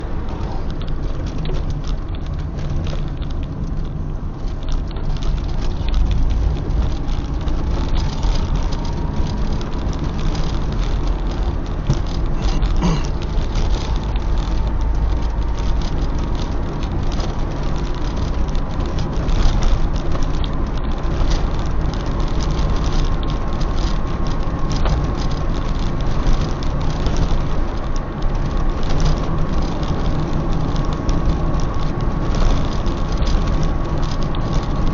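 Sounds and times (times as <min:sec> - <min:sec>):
car engine and road noise: 0:00.0 - 0:34.9
small rattles and knocks: 0:00.2 - 0:34.9.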